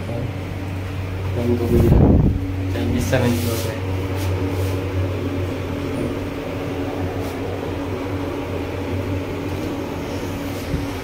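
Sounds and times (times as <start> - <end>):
lift humming: 0.0 - 11.0.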